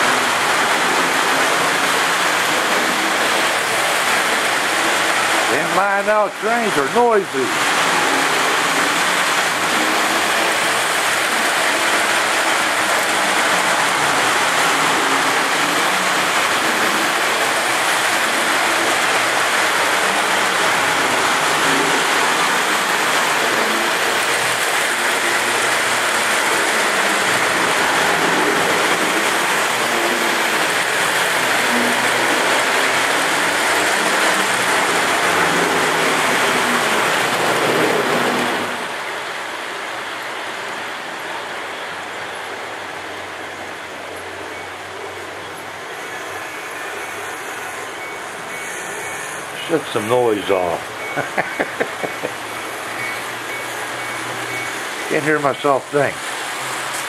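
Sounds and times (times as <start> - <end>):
model trains rumbling on track: 0.0 - 57.0.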